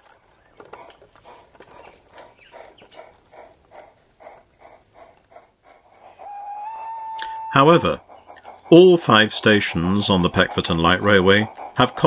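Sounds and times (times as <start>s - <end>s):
model train wheels clicking: 1.4s - 12.0s.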